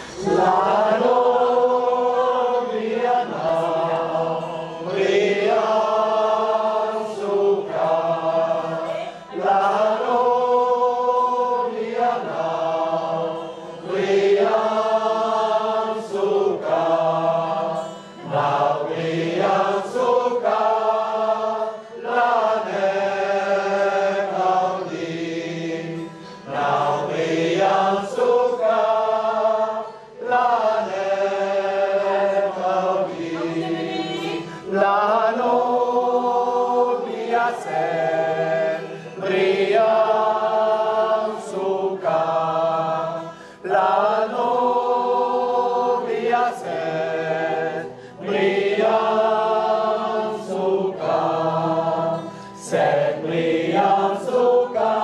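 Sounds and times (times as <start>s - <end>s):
men's choir singing unaccompanied: 0.0s - 55.0s.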